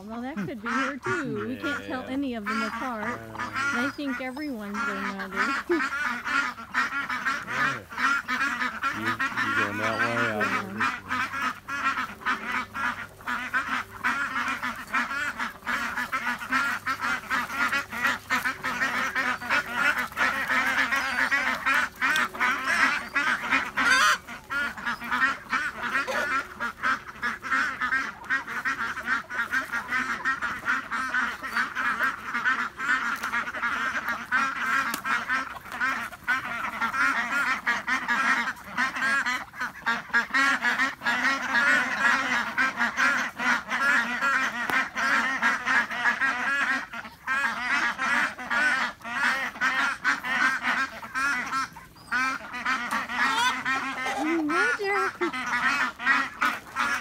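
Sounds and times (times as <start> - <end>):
ducks quacking: 0.0 - 57.0.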